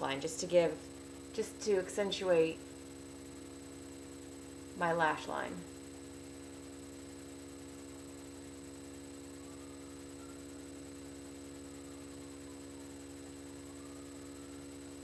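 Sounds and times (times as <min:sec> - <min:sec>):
electrical hum: 0:00.0 - 0:15.0
thin high whine: 0:00.0 - 0:15.0.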